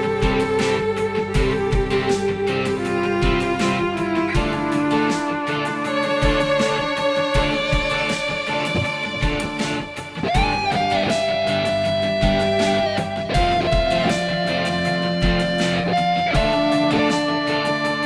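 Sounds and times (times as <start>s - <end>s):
low drum beat: 0.0s - 17.4s
held lead melody: 0.0s - 18.0s.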